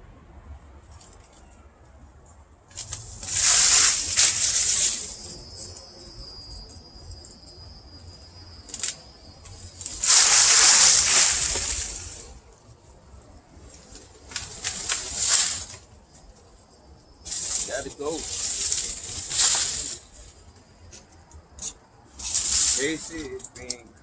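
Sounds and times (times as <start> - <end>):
branches rustling: 2.2 - 24.0.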